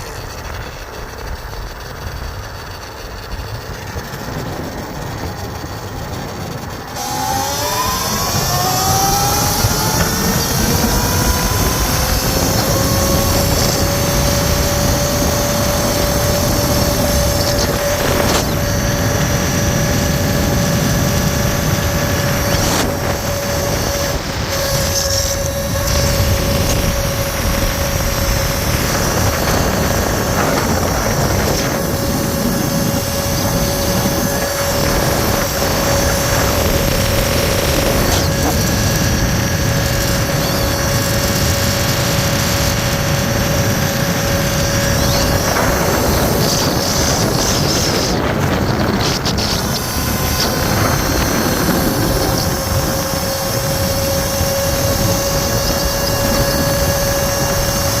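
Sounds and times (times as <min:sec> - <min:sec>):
electric motor whining: 0:00.0 - 0:58.0
low rumbling noise: 0:00.0 - 0:58.0.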